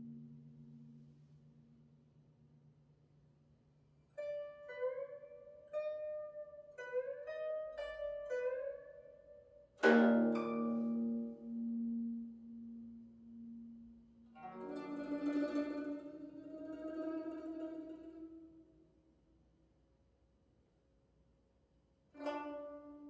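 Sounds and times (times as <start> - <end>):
guzheng plucked notes: 0.0 - 19.4, 22.1 - 23.0.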